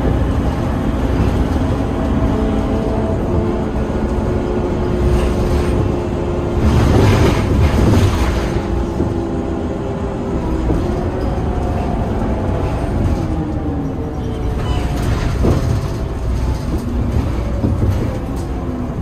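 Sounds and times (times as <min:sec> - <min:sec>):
bus engine humming: 0:00.0 - 0:19.0
road rumble: 0:00.0 - 0:19.0.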